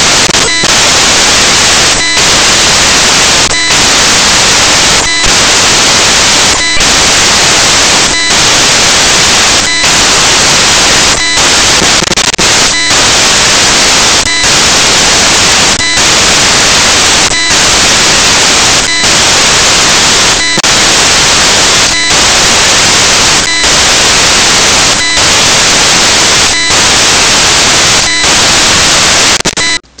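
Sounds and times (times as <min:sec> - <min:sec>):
static hiss: 0:00.0 - 0:30.0.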